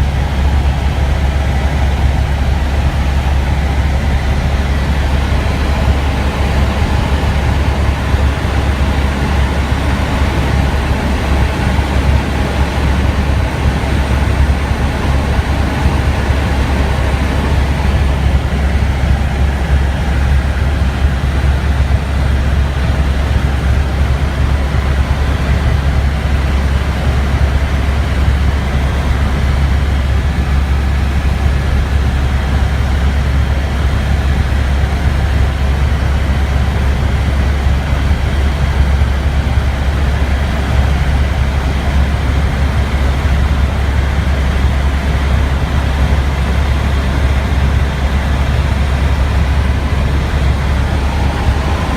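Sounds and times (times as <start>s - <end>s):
helicopter engine and rotors drone: 0.0s - 51.9s.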